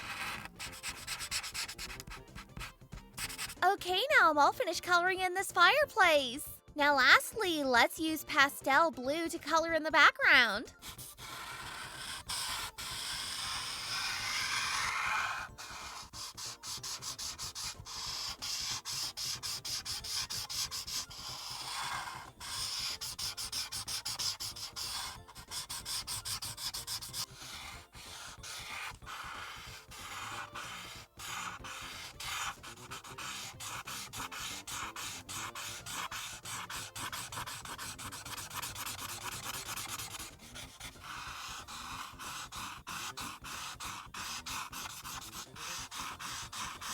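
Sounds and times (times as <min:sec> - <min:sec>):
marker rubbing on paper: 0:00.0 - 0:06.2, 0:09.0 - 0:46.9.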